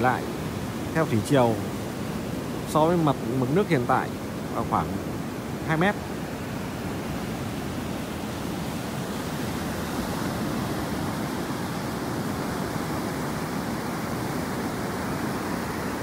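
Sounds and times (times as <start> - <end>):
sea surf breaking on beach: 0.0 - 16.0.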